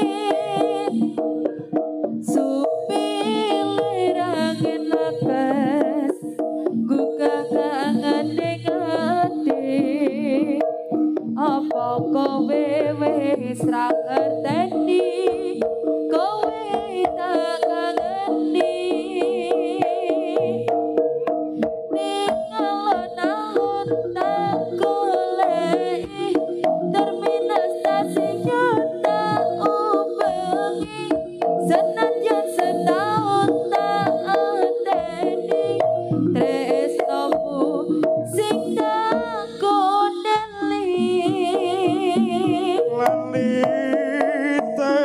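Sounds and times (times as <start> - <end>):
drums beating: 0.0 - 45.0
wavering lead melody: 0.0 - 45.0.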